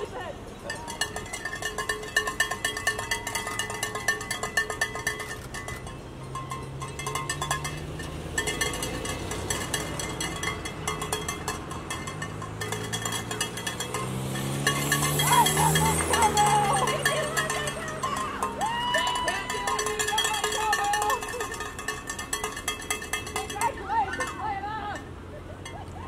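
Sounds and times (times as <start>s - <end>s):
cowbell shaken rapidly: 0.0s - 25.9s
cars passing slowly: 0.0s - 26.0s.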